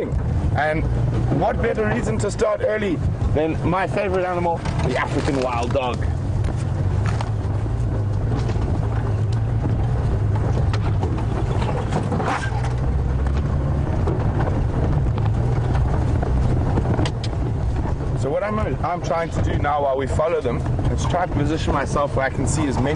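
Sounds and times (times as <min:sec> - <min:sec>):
vehicle engine running: 0:00.0 - 0:22.9
knocks and rattles: 0:04.0 - 0:22.9.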